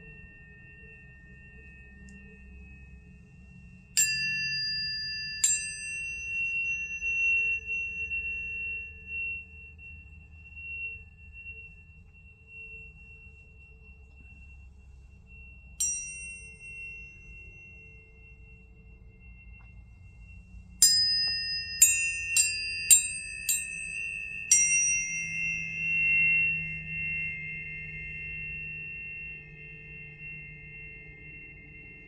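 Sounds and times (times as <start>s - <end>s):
high ringing tone: 0.0s - 32.0s
tuning forks struck and ringing: 0.0s - 32.0s.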